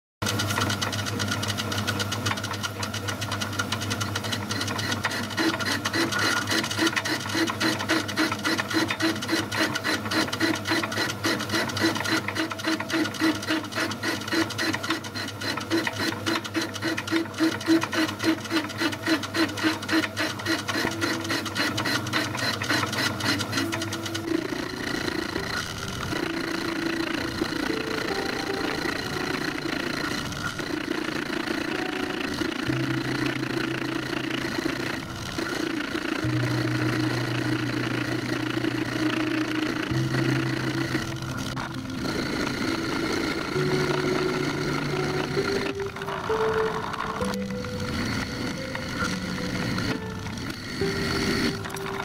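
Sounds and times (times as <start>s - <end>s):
metal lathe running: 0.2s - 52.0s.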